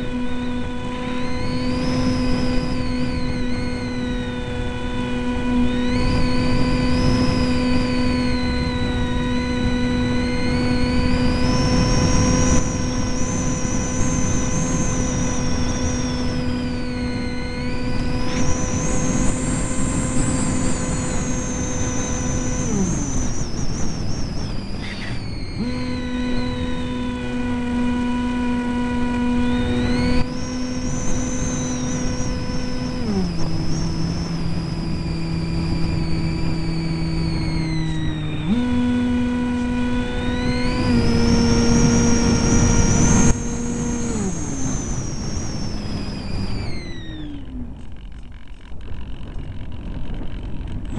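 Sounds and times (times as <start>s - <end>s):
electric motor and propeller droning: 0.0s - 50.9s.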